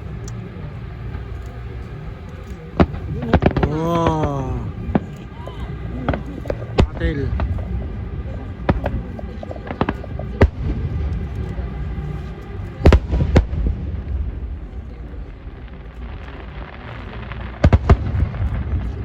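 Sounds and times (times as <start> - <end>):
low rumble: 0.0 - 19.0
fireworks bangs: 0.9 - 19.0.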